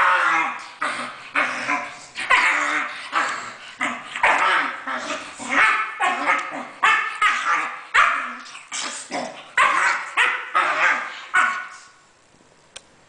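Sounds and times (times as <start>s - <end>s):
dogs barking in play: 0.0s - 12.0s.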